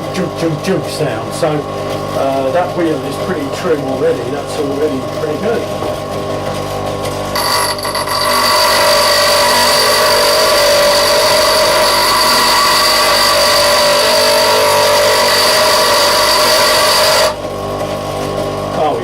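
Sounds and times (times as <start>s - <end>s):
bench grinder grinding: 0.0s - 19.0s.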